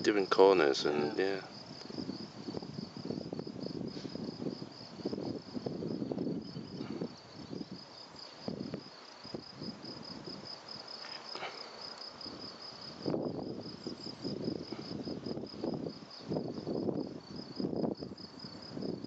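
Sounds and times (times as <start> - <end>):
insect trilling: 0.0 - 18.9
low gusty noise: 0.0 - 19.0.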